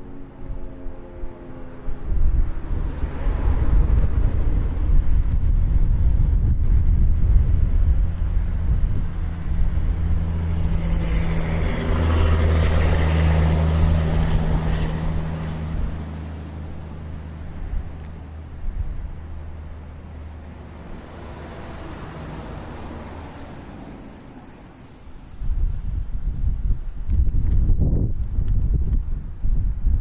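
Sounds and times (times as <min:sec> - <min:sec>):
road noise: 0:00.0 - 0:30.0
vehicle engine humming: 0:00.0 - 0:30.0.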